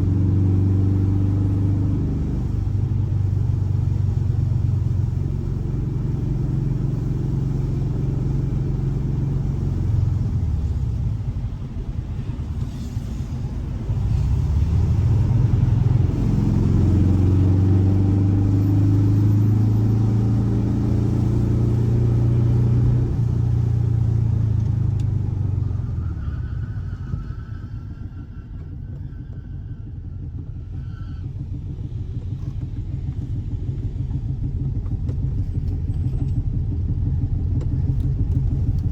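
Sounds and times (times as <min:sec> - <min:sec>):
engine low rumble: 0:00.0 - 0:38.9.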